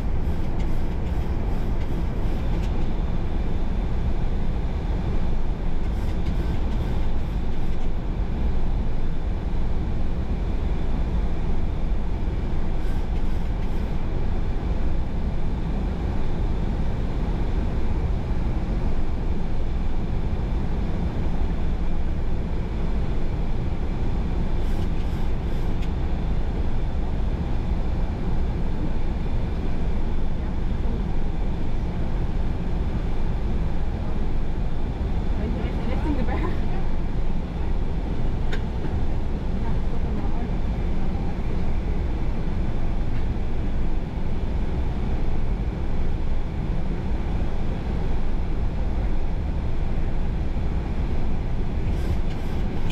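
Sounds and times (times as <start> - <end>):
cockpit airflow and engine noise: 0.0 - 52.9.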